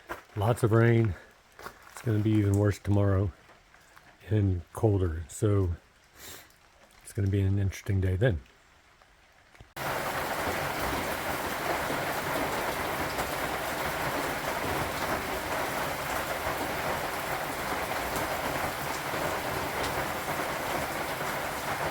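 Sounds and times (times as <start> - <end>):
steady rain falling: 0.0 - 21.9.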